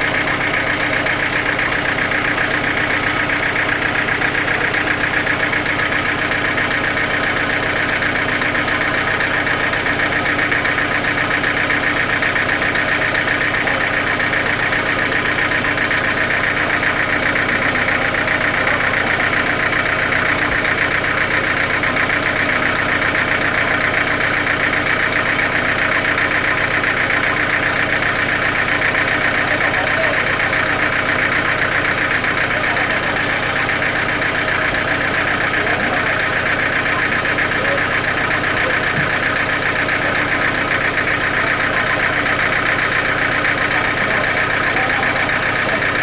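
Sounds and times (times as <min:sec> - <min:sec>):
sawmill machinery droning: 0:00.0 - 0:46.0.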